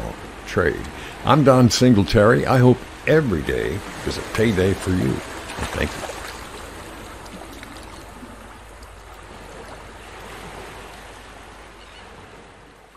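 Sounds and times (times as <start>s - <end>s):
ocean waves washing: 0.0s - 12.9s.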